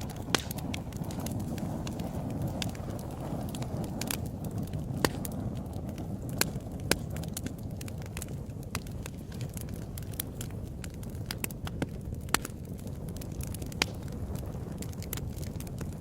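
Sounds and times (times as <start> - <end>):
fire crackles and pops: 0.0 - 16.0
flame rumble: 0.0 - 16.0.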